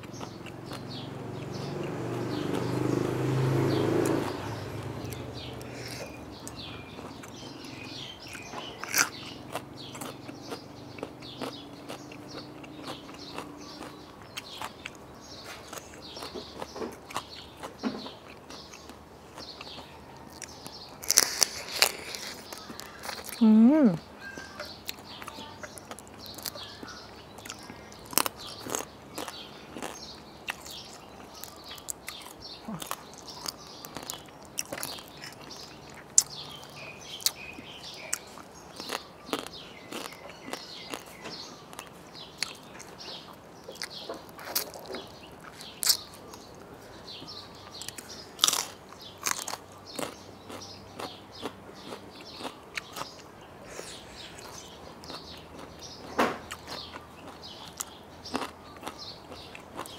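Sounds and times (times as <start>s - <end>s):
person chewing crunchy food: 0.0s - 23.5s, 24.2s - 59.9s.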